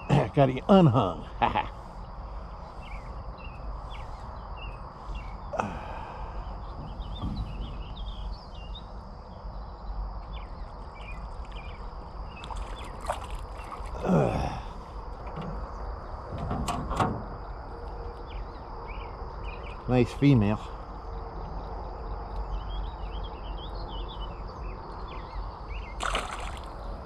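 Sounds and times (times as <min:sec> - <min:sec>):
insects droning: 0:00.0 - 0:27.0
low outdoor rumble: 0:00.0 - 0:27.0.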